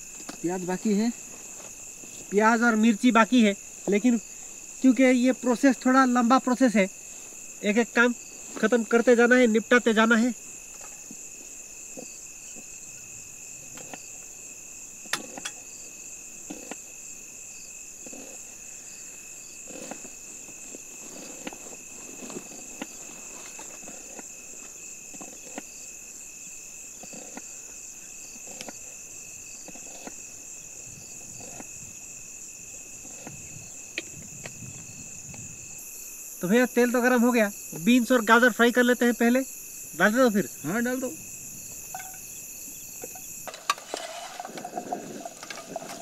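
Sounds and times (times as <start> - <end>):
crickets chirring: 0.0 - 46.0.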